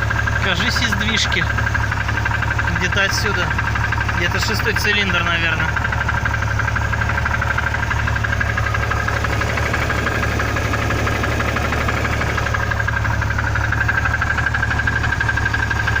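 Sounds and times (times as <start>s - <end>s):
engine idling: 0.0s - 16.0s
rapid engine knock: 0.0s - 16.0s.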